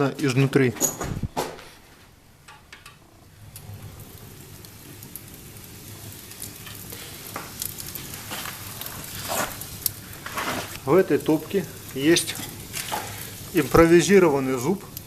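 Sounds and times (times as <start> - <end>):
fire crackling and hissing: 0.0 - 15.0
low fire rumble: 0.0 - 15.0.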